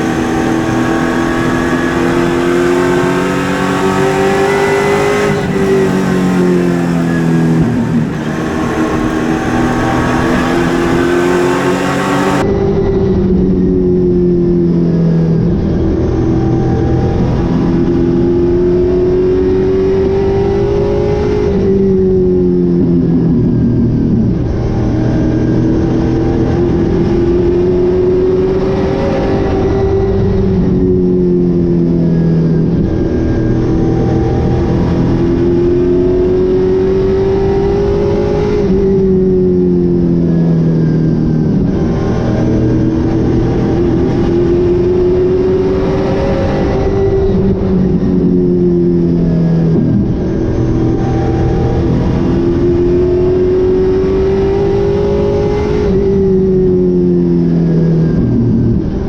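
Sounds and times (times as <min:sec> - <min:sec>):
race car engine at speed: 0:00.0 - 0:59.0.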